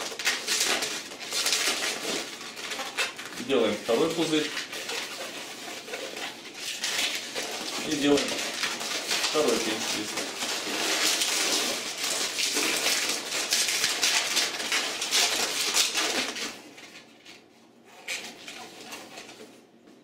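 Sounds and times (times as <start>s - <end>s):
balloons rubbing and squeaking: 0.0s - 19.8s.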